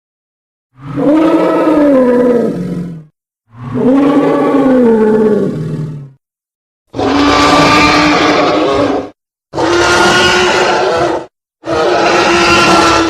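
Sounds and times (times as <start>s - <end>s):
monster roar: 0.8s - 6.1s, 6.9s - 13.0s.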